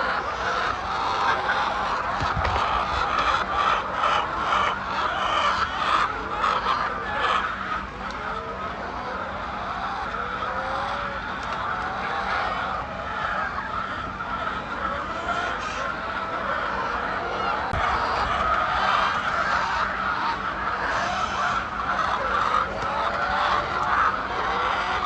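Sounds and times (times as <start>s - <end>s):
flock of chickens calling: 0.0s - 25.0s.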